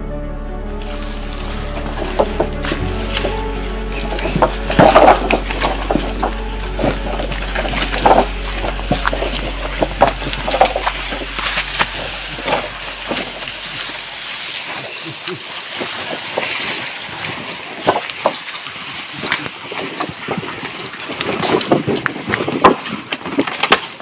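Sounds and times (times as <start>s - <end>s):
wooden poles dragged over dirt: 0.7s - 24.0s.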